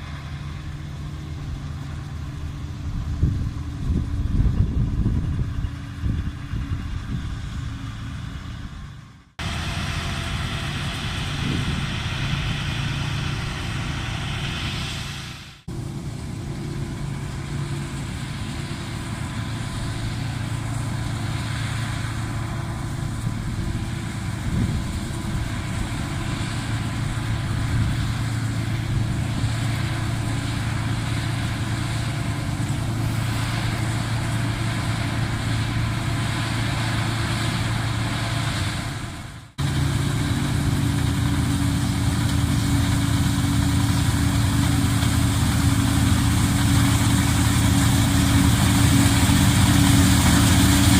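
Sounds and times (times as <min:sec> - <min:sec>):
combine harvester engine drone: 0:00.0 - 0:50.9.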